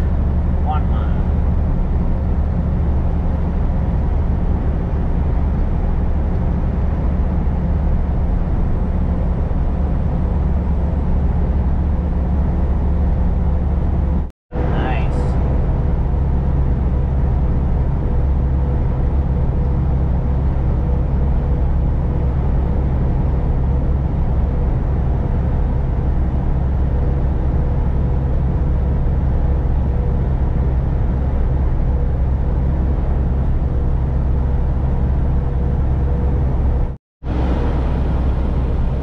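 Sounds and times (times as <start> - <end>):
truck engine and road noise: 0.0 - 39.0.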